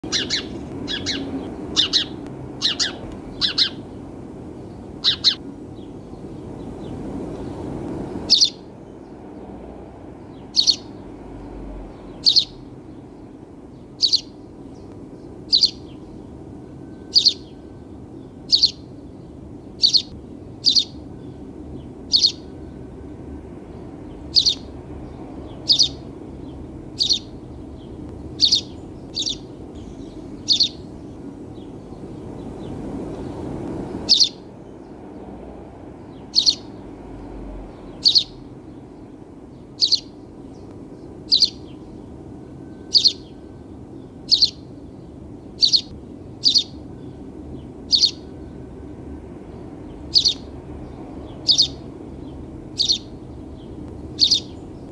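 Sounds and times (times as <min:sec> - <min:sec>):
sparrow chirping: 0:00.0 - 0:09.4, 0:10.1 - 0:54.9
low background noise: 0:00.0 - 0:54.9.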